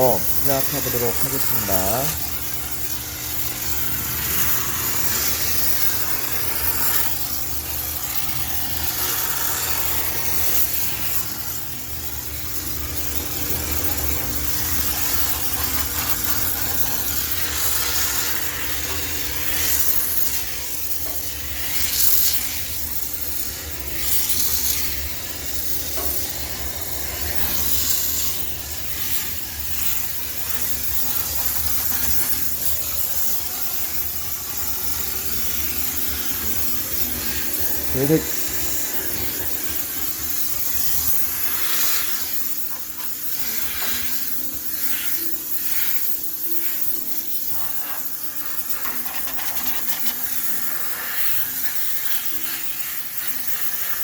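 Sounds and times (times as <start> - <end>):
steam cleaner hissing: 0.0 - 54.0.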